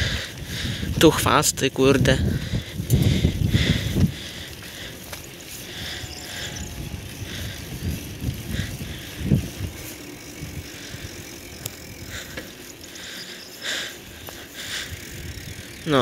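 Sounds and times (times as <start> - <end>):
bicycle tyre and wind rumble: 0.0 - 16.0
bike rattles: 0.0 - 16.0
bicycle bump: 1.8 - 16.0.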